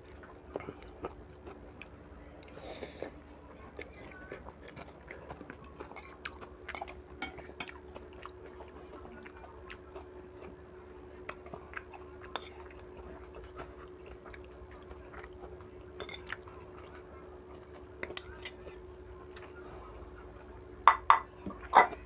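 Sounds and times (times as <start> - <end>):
chewing: 0.0 - 19.6
faint hum: 0.0 - 22.0.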